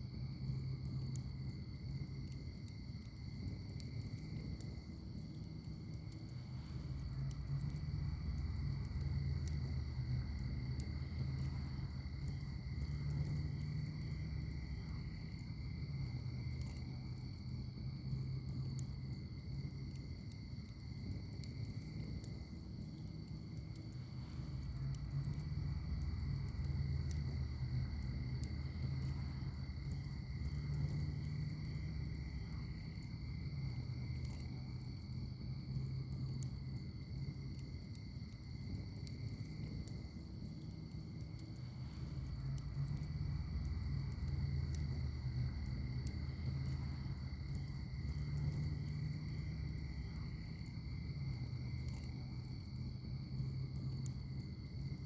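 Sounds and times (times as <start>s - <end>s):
insects trilling: 0.0s - 55.0s
low rumble of flames: 0.0s - 55.0s
wood fire crackling and popping: 0.0s - 55.0s.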